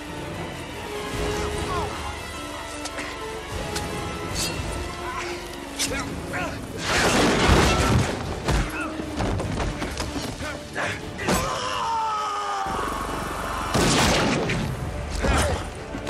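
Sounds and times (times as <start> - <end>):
film music score: 0.0 - 16.0.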